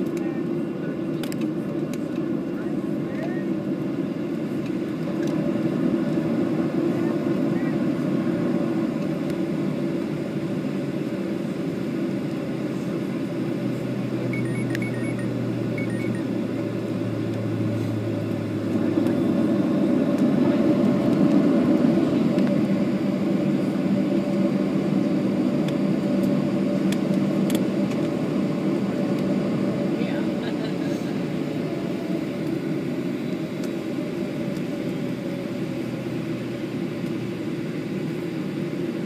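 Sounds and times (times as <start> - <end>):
jet engines idling: 0.0 - 39.0.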